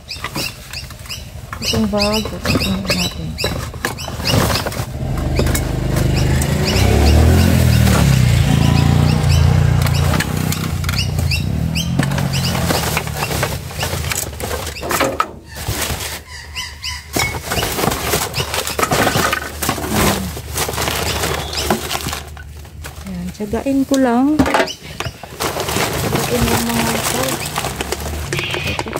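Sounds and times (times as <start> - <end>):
paper bag and plastic rustling: 0.0 - 6.1, 10.0 - 28.9.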